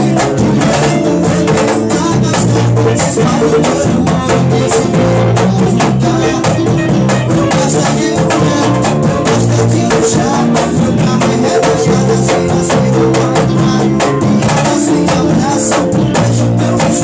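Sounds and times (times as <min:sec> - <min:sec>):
band music with drums: 0:00.0 - 0:17.0.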